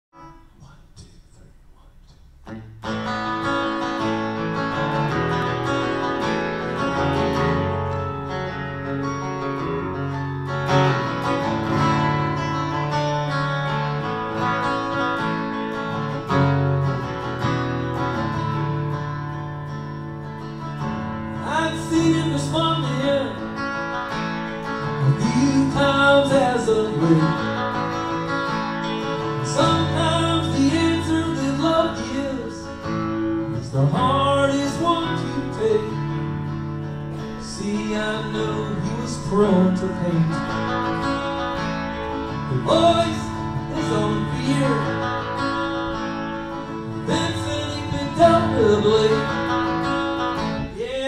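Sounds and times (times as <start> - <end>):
acoustic guitar strumming: 0.1 - 51.0.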